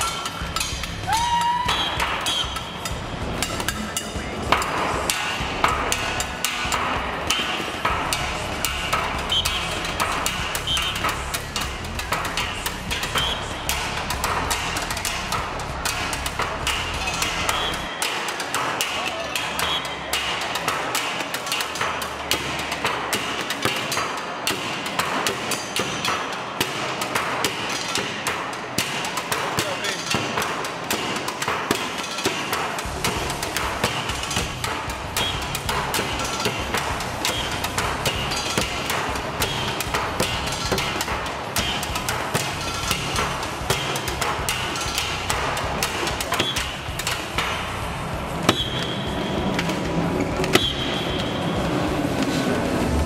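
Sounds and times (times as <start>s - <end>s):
low backing beat: 0.0s - 23.1s, 32.5s - 53.0s
banging on metal car parts: 0.0s - 53.0s
percussion on metal pipes: 0.0s - 53.0s.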